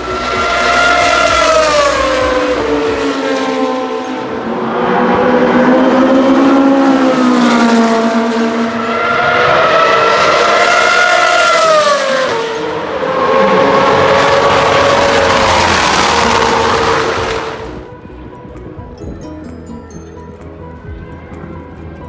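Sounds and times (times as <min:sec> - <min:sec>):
racing car engines wailing: 0:00.0 - 0:22.0.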